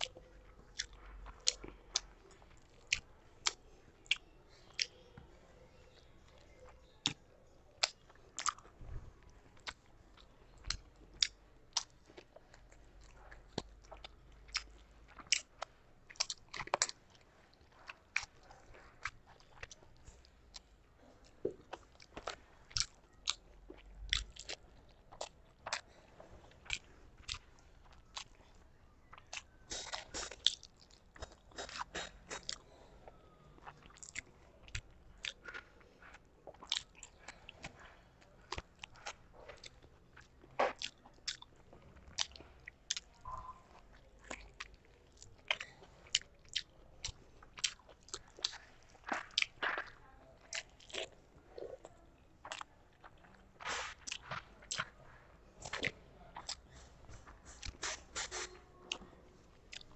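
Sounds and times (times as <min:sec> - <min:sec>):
close chewing of food: 0:00.0 - 0:59.9.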